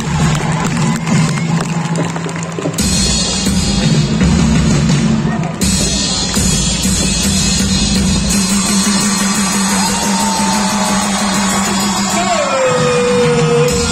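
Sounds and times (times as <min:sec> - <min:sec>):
music playing: 0:00.0 - 0:13.9.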